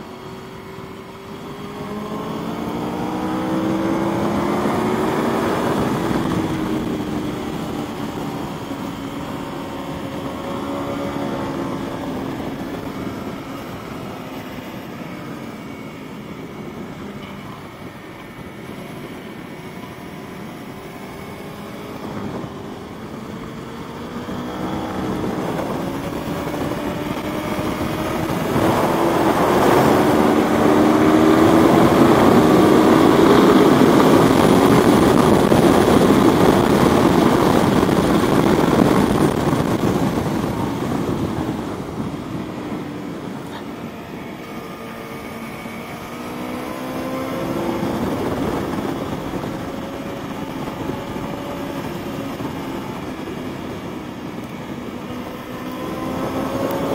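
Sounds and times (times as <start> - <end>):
motorcycle engine pulling hard: 0.0 - 56.9
wind noise: 0.0 - 56.9.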